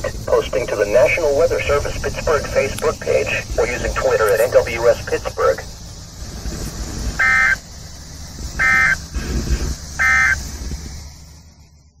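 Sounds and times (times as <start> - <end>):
harsh buzzy data bursts: 0.0 - 10.6
steady hiss: 0.0 - 11.8
low rumble: 0.0 - 12.0.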